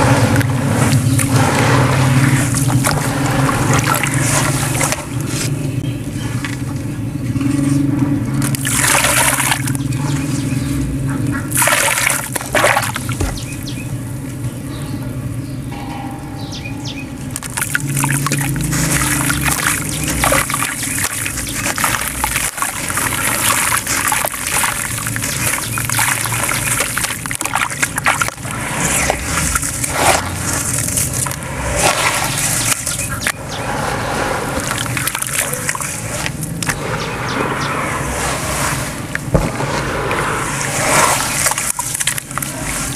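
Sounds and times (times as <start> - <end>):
wet sloshing and trickling: 0.0 - 13.7, 17.3 - 42.9.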